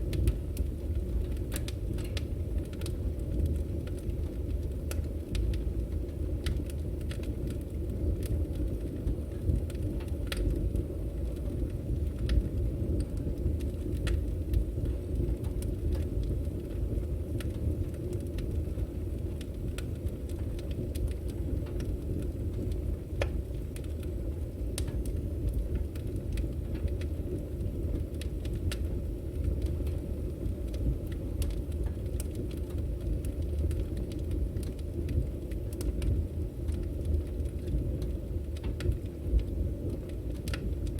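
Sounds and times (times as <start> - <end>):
fire crackles and pops: 0.0 - 40.9
firewood burning: 0.0 - 40.9.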